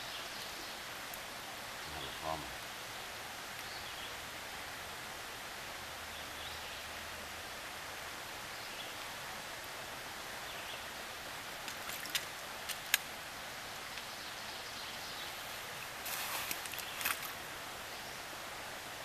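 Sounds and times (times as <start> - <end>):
stream hiss: 0.0 - 19.0.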